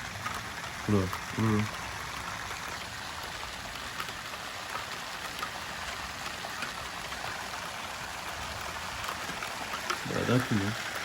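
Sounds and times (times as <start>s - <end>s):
rain hiss: 0.0s - 11.0s.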